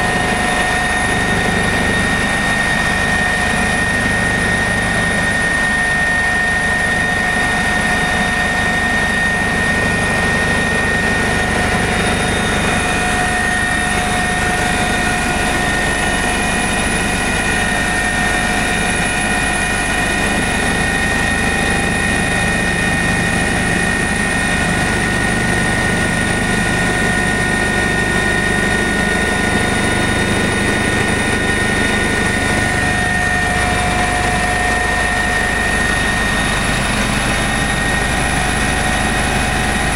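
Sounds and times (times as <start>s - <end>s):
helicopter engine whine and rotor: 0.0s - 39.9s.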